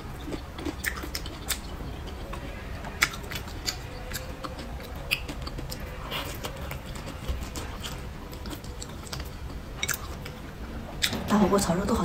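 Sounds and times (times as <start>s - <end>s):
person chewing food: 0.0s - 11.3s.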